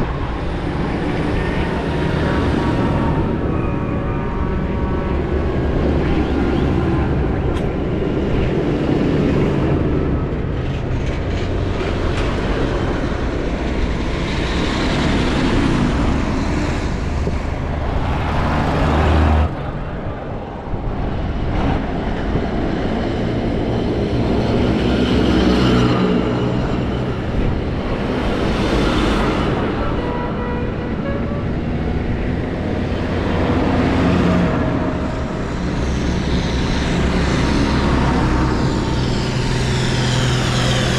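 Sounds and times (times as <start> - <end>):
diesel tractors driving past: 0.0 - 40.9
tyres on road: 0.0 - 40.9.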